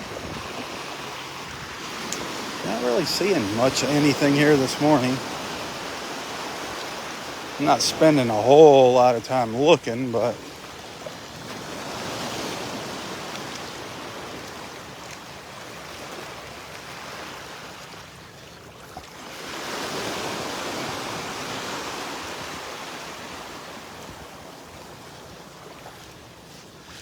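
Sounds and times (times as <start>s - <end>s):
small waves washing on beach: 0.0s - 27.0s.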